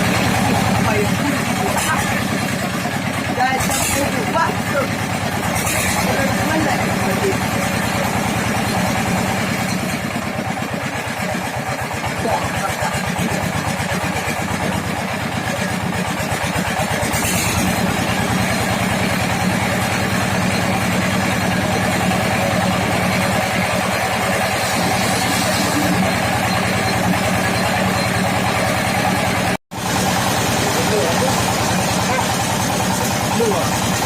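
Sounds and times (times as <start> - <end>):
sawmill engine running: 0.0 - 34.0.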